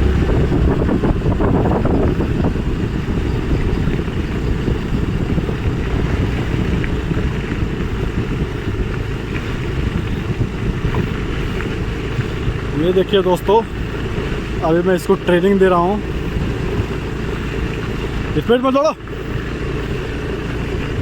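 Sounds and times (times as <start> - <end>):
low choppy rumbling: 0.0 - 21.0.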